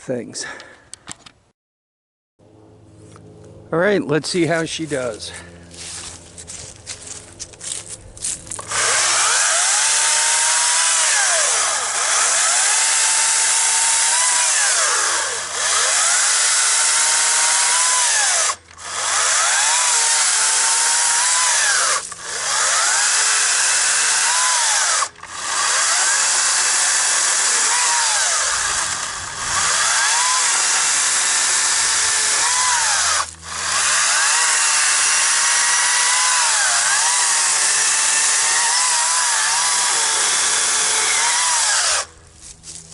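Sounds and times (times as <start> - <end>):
electric chainsaw cutting logs: 5.8 - 42.9.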